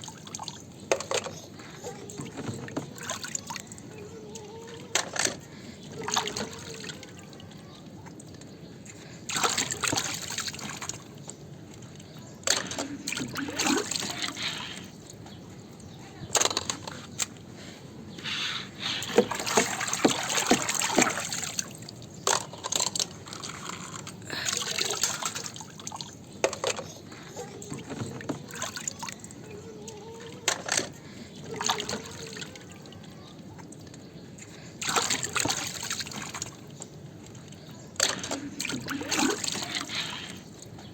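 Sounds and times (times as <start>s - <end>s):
water splashing and sloshing: 0.0s - 40.9s
plastic toys clicking and knocking: 0.4s - 7.0s, 8.1s - 17.5s, 18.2s - 32.5s, 33.6s - 40.9s.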